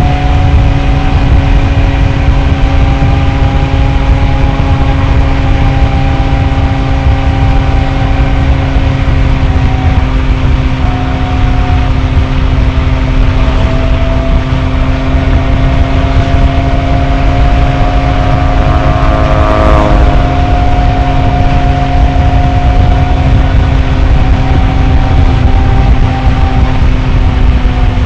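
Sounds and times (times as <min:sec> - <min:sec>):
scooter engine droning: 0:00.0 - 0:28.0
wind rumble on microphone: 0:00.0 - 0:28.0.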